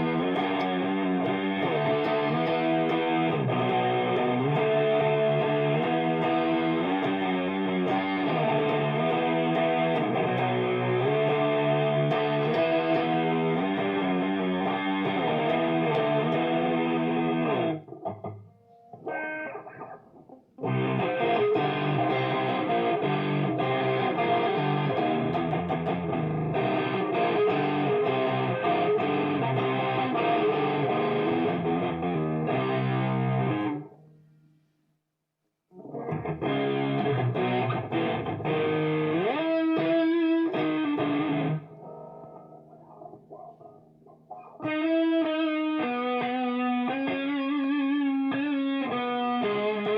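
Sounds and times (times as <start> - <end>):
distorted electric guitar: 0.0 - 34.2, 35.7 - 49.9.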